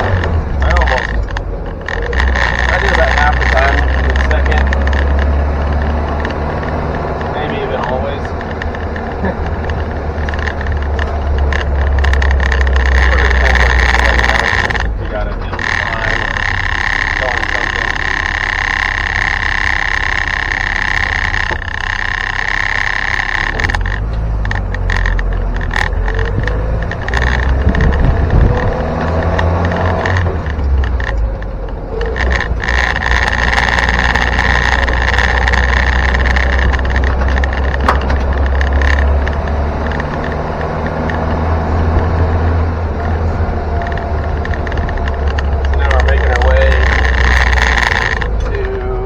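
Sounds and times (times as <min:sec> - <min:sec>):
car engine rumble: 0:00.0 - 0:49.0
high engine whine: 0:00.0 - 0:49.0
loose body parts rattling: 0:00.0 - 0:49.0.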